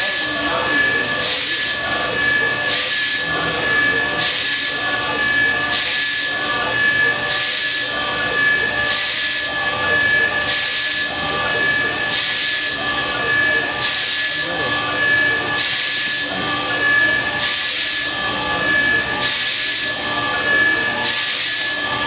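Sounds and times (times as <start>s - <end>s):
cutter hiss through block: 0.0s - 0.4s, 1.1s - 21.9s
router spindle whine: 0.0s - 22.0s.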